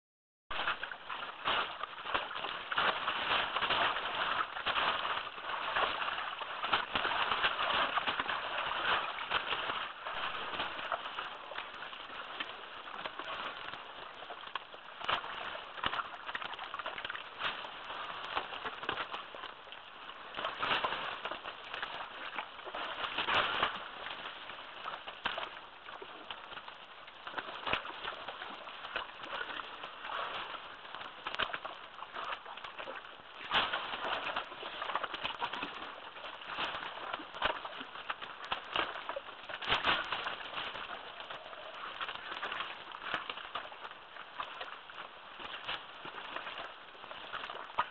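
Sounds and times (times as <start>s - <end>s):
splashes: 0.5s - 47.9s
mud sloshing and squelching: 0.6s - 47.9s.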